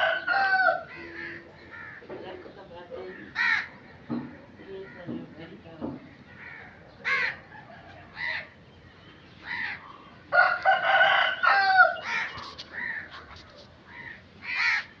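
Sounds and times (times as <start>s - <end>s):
crows cawing: 0.0s - 2.4s, 3.0s - 5.4s, 6.0s - 8.6s, 9.4s - 15.0s.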